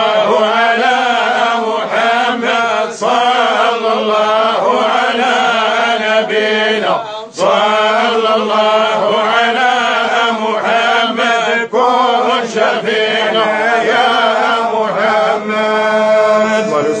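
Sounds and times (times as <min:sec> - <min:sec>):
men chanting together: 0:00.0 - 0:17.0.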